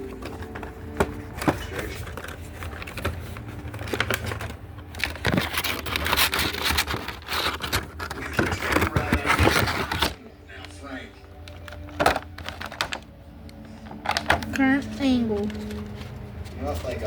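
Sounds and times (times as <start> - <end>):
packaging clicks: 0.0 - 16.6
plastic and cardboard crinkling: 0.0 - 17.0.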